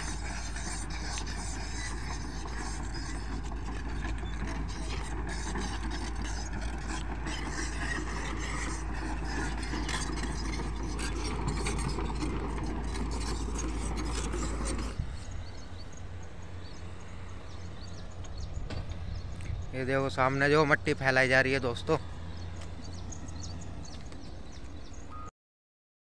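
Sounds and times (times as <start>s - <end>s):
distant background noise: 0.0s - 25.3s
excavator diesel engine running: 0.0s - 25.3s.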